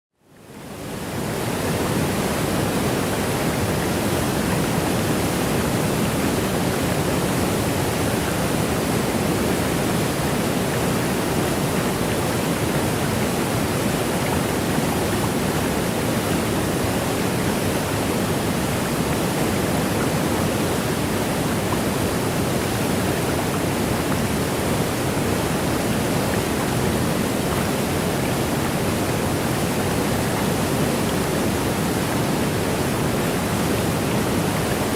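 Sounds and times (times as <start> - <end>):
rush of falling water: 0.3 - 34.9.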